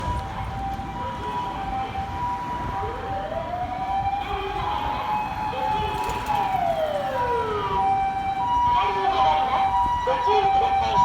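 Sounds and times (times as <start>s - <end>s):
two-tone ambulance siren: 0.0s - 11.0s
wailing siren: 0.0s - 11.0s.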